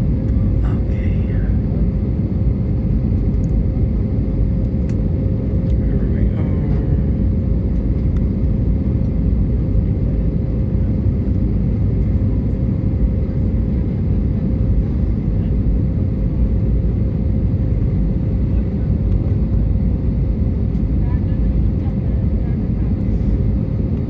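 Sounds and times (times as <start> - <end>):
airliner cabin engine rumble: 0.0 - 24.0
constant hum: 0.0 - 24.0.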